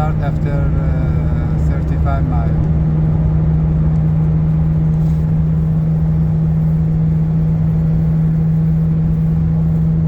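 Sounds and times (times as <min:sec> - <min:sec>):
road rumble: 0:00.0 - 0:10.0.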